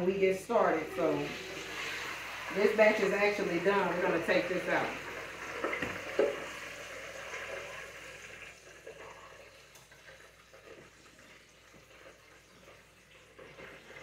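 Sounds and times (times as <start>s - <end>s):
oil bubbling and sizzling: 0.0s - 14.0s.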